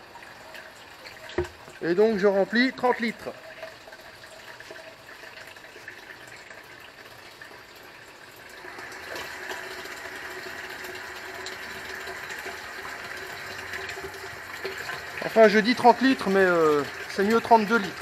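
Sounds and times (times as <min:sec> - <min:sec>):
hose water filling plastic tank: 0:00.0 - 0:18.0.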